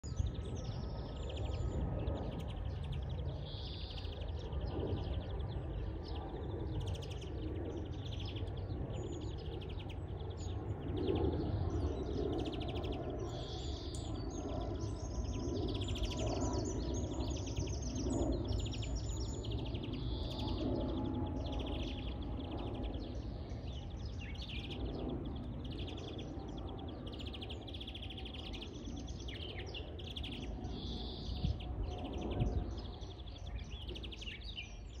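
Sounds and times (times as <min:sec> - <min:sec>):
bird twittering trills: 0:00.0 - 0:35.0.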